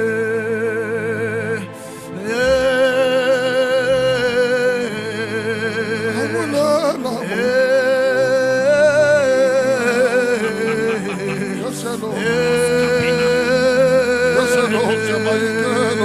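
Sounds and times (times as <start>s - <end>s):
sustained backing chords: 0.0s - 16.0s
solo voice singing with vibrato: 2.3s - 16.0s.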